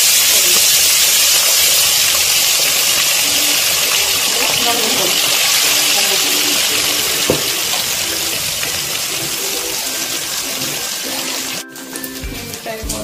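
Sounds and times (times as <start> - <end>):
fish sizzling in hot oil: 0.0 - 12.5.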